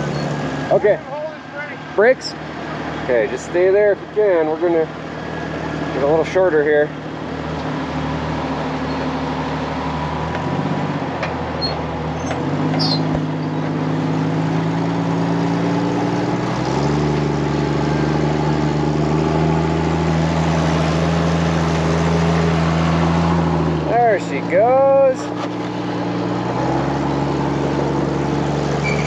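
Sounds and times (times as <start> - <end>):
buggy engine running under load: 0.0 - 29.0.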